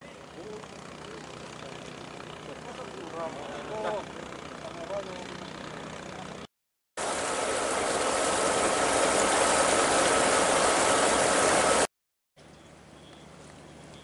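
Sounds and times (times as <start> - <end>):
faint engine whine: 0.0 - 14.0.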